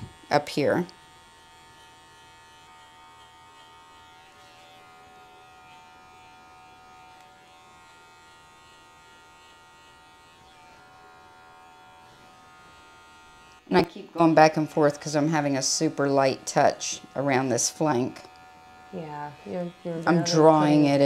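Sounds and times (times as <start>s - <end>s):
electric clippers buzzing: 0.0s - 21.0s.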